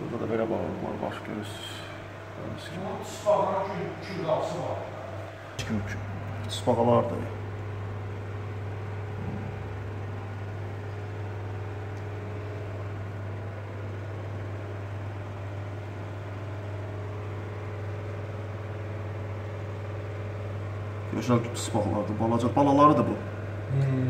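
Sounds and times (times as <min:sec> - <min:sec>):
aquarium equipment hum: 0:00.0 - 0:24.0.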